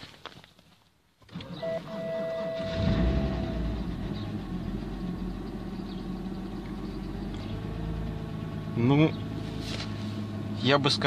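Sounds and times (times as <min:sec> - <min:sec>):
car engine cold start and idle: 0:01.2 - 0:11.0.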